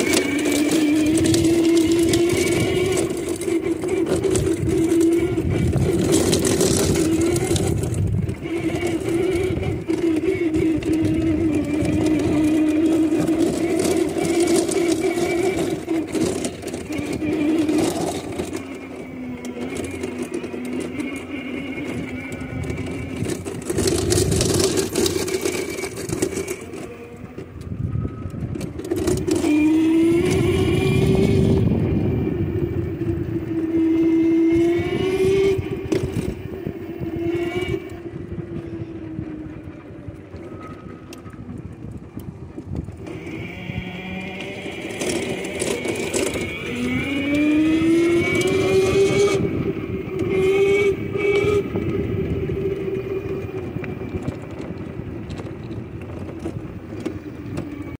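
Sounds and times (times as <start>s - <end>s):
go-kart motor whining: 0.0s - 58.0s
rough ride noise: 0.0s - 58.0s.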